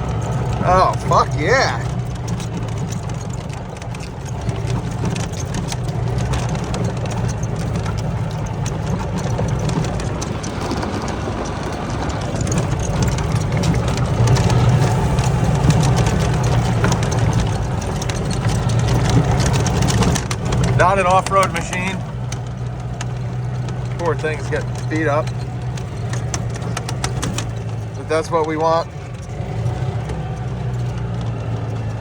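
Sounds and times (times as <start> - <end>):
body and frame rattling: 0.0 - 32.0
golf cart drive droning: 0.0 - 32.0.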